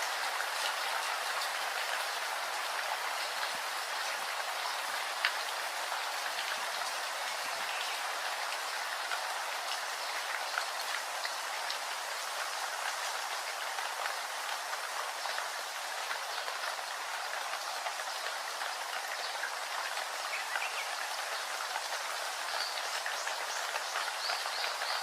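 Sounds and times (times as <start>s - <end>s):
steady rainfall hiss: 0.0s - 25.0s.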